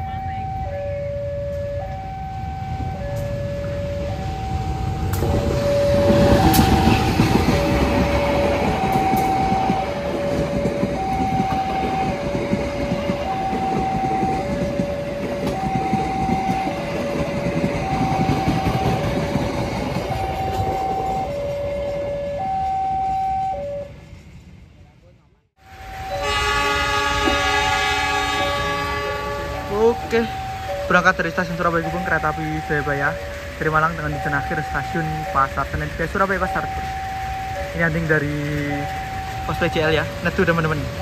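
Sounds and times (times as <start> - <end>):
level crossing two-tone alarm: 0.0 - 24.0, 25.6 - 41.0
train wheels rumbling on rails: 0.0 - 41.0.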